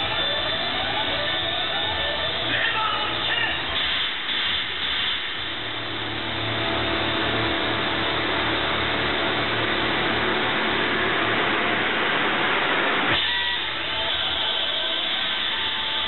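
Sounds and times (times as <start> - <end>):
rushing engine-like rumble over loudspeakers: 0.0 - 16.0.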